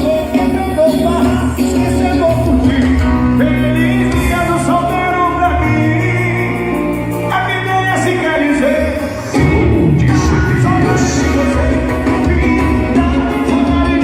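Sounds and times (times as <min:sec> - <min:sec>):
loud music with heavy bass: 0:00.0 - 0:14.0
person singing: 0:00.0 - 0:14.0.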